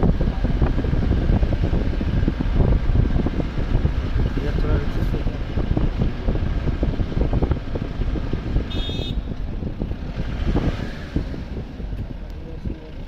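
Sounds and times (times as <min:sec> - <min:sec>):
car driving on a road: 0:00.0 - 0:13.0
wind buffeting microphone: 0:00.0 - 0:13.0.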